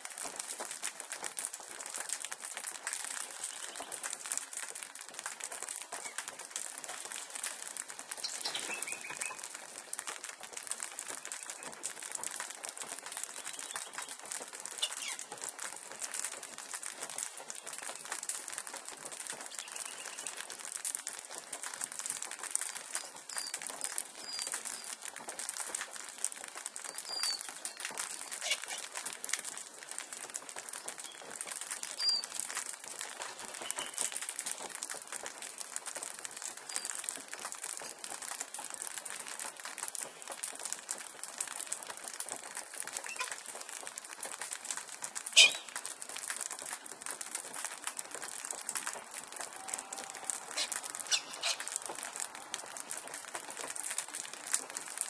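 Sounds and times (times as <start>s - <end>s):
crackling and rustling noise: 0.0s - 55.0s.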